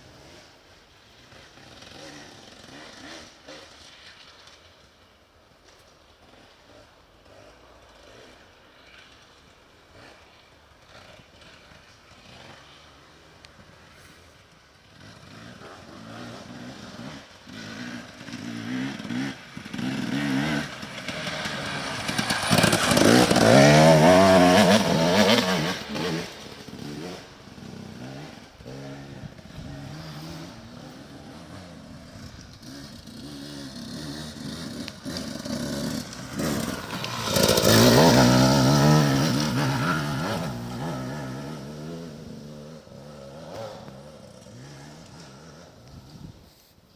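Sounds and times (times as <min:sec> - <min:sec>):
motorcycle engine revving: 0:01.2 - 0:04.6, 0:06.3 - 0:46.8.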